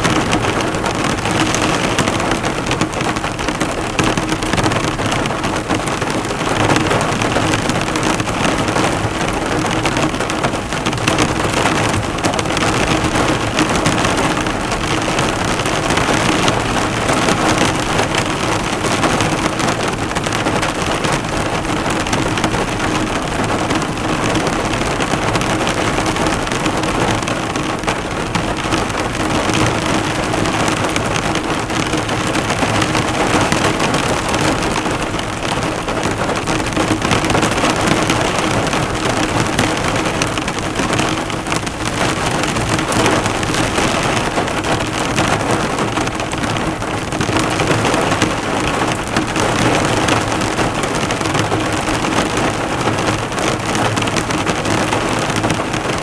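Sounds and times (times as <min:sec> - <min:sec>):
heavy rain on a car: 0:00.0 - 0:56.0.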